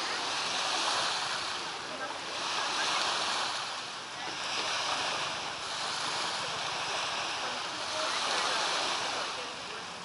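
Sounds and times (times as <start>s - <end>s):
waves washing onto pebbles: 0.0s - 10.0s.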